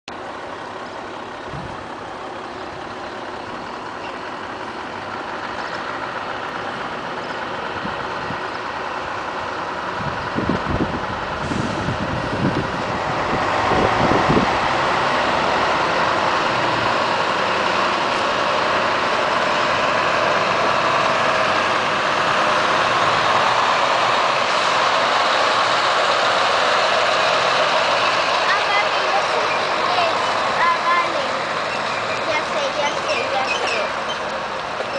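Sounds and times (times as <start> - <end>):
truck diesel engine passing: 0.1 - 34.9.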